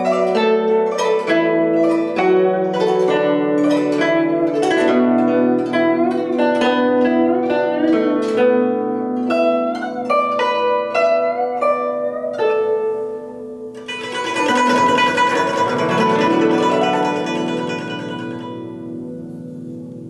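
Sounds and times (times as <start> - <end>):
plucked zither notes: 0.0 - 20.0.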